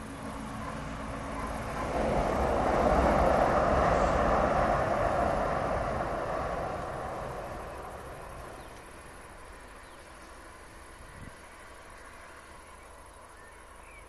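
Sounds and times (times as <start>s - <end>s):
diesel train passing: 0.0s - 14.0s.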